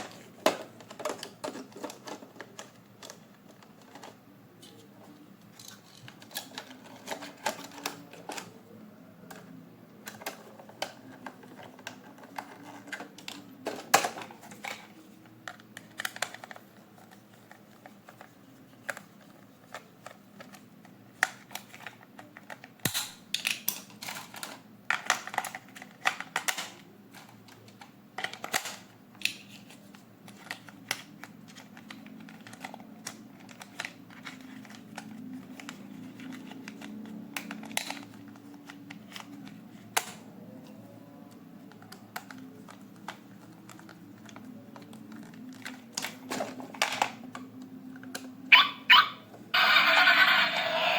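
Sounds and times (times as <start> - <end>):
plastic toy parts clicking: 0.1 - 4.2, 5.5 - 8.5, 9.3 - 20.6, 21.2 - 40.2, 41.7 - 48.3.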